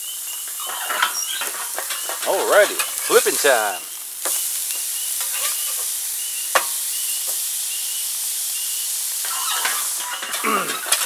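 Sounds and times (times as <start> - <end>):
patties sizzling on grill: 0.0 - 11.0.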